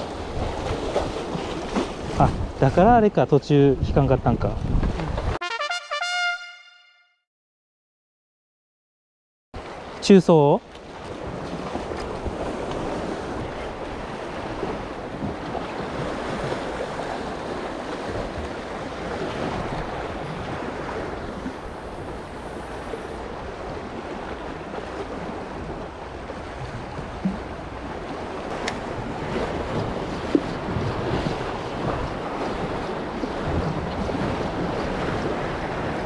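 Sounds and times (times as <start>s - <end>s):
wind buffeting microphone: 0.0s - 3.1s, 3.7s - 5.4s, 11.0s - 36.0s
sea waves washing on concrete: 0.0s - 3.6s, 9.6s - 36.0s.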